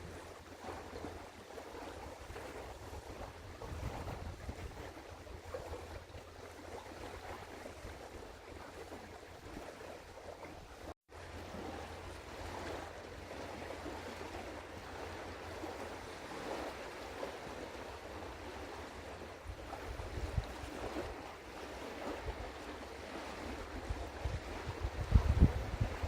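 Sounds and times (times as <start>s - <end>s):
wind buffeting microphone: 0.0s - 9.7s, 11.5s - 26.0s
river water: 0.0s - 26.0s
wind: 0.0s - 26.0s.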